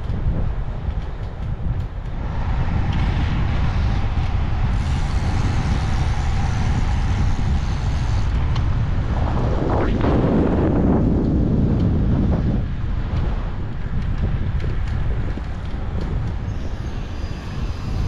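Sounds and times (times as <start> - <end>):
wind buffeting microphone: 0.0 - 18.0
hissing road noise: 0.8 - 18.0.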